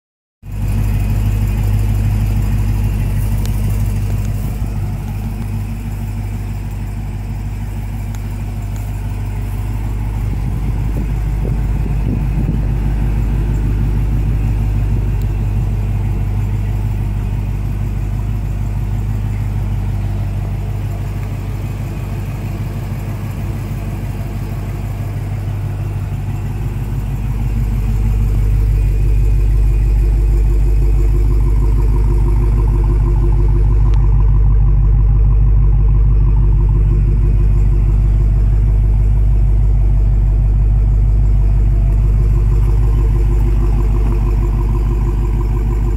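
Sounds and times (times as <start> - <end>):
car engine idling: 0.4 - 45.9.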